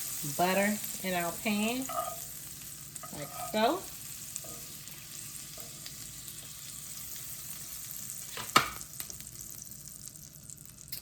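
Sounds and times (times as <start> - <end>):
butter sizzling in a frying pan: 0.0 - 11.0.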